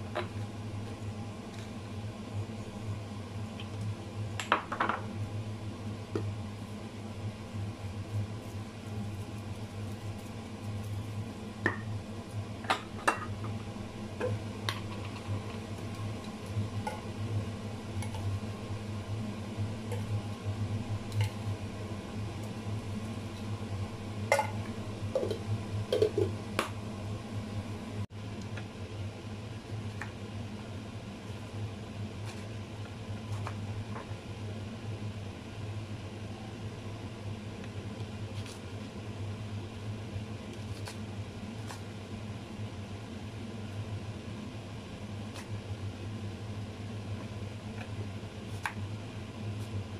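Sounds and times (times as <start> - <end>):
low appliance hum: 0.0 - 49.9.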